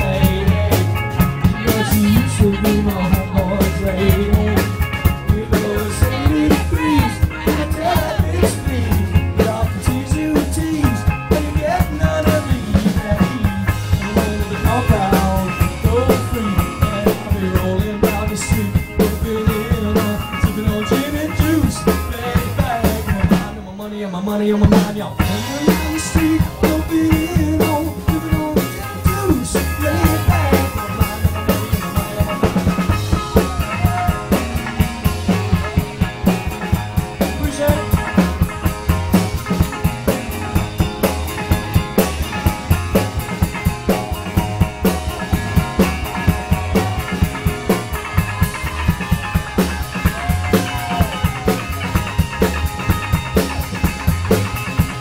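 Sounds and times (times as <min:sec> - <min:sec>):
live band music: 0:00.0 - 0:55.0.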